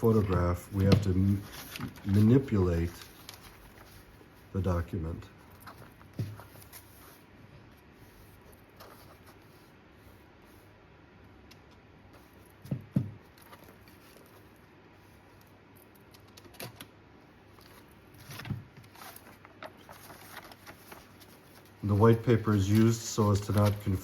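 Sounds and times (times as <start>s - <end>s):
paper rustling: 0.0s - 10.7s, 12.1s - 15.5s, 17.5s - 24.0s.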